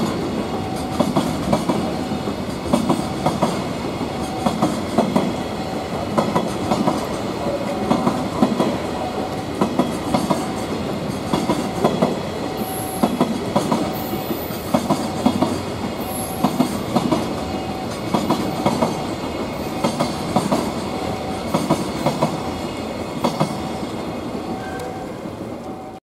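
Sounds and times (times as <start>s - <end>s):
train wheels clicking over rail joints: 0.0s - 24.9s
continuous train rumble: 0.0s - 26.0s.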